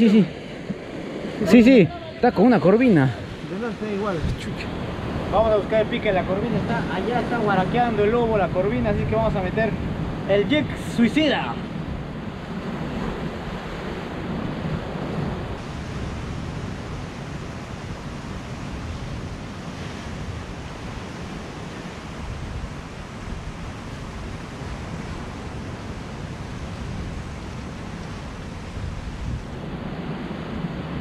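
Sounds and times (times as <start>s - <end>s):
ocean surf breaking over rocks: 0.0s - 31.0s
wind on microphone: 0.6s - 31.0s.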